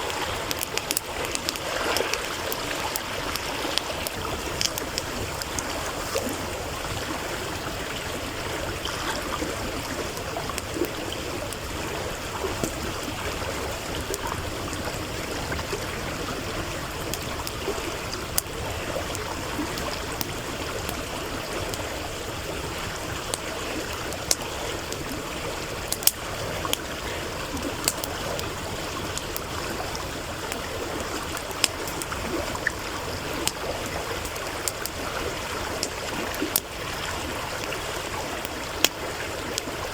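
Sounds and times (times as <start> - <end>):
campfire crackling and popping: 0.0 - 39.9
stream rushing: 0.0 - 39.9.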